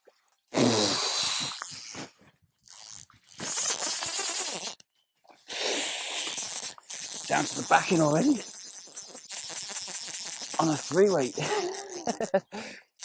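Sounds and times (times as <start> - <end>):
fishing reel drag buzzing: 0.6 - 4.8, 5.5 - 13.0.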